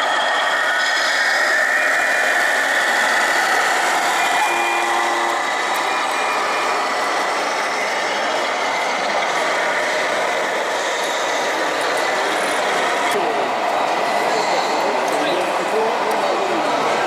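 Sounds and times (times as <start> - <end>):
model truck running: 0.0 - 13.8.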